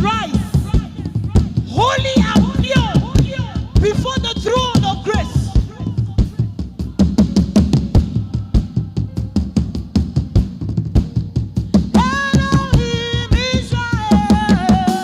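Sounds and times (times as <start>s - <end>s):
gospel worship music: 0.0s - 15.0s
steady drum beat: 0.0s - 15.0s.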